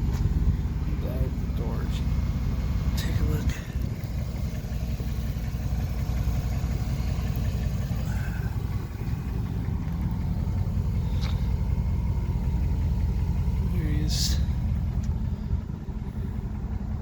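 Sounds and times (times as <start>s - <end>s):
pickup engine idling: 0.0s - 17.0s.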